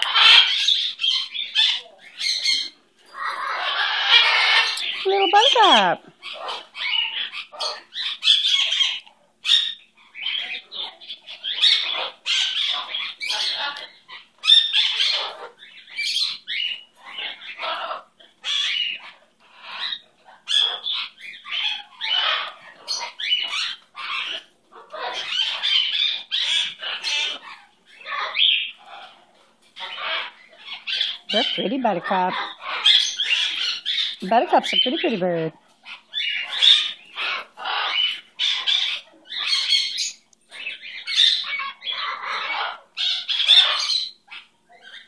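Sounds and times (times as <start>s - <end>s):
parakeet raspy calls: 0.0s - 45.0s.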